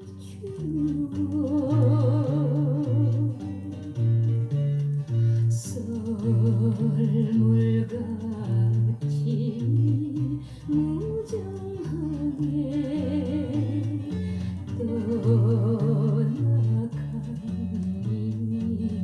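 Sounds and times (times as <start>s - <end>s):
pulsing bass line: 0.0s - 19.0s.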